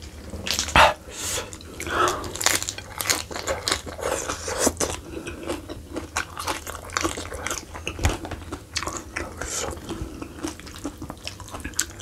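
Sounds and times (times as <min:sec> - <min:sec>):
person chewing meat: 0:00.4 - 0:12.0.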